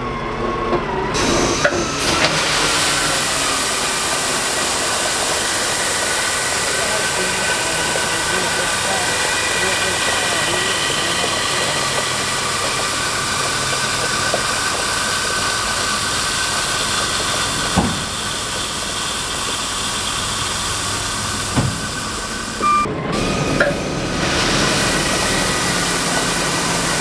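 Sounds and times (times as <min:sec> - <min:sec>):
diesel engine running slowly: 0:00.0 - 0:27.0.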